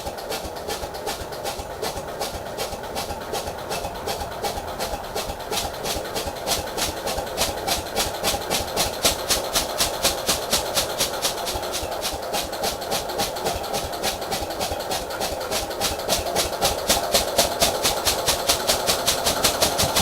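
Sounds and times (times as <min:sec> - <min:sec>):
tractor engine cranking: 0:00.0 - 0:20.0.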